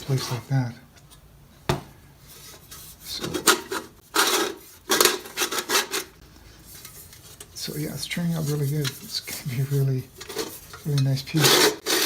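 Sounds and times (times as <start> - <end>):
steel helmet plates scraping: 2.2 - 12.0.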